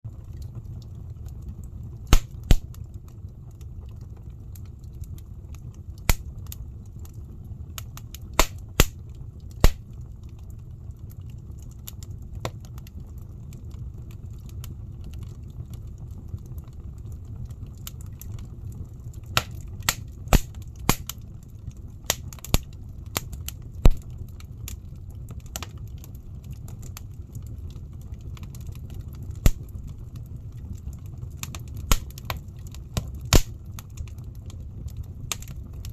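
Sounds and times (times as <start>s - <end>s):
fire rumbling: 0.1s - 35.9s
logs crackling and popping: 0.1s - 35.9s.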